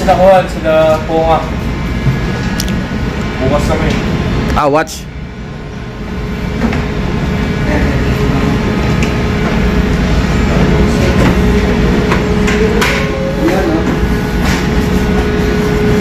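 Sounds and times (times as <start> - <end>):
ship machinery rumbling: 0.0 - 16.0.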